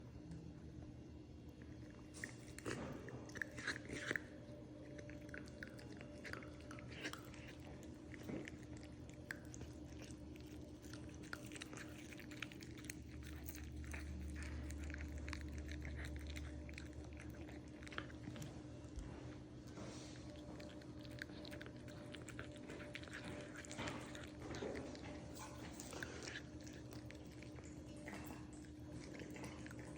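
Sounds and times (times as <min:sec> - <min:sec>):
cat crunching a snack: 0:01.5 - 0:29.9.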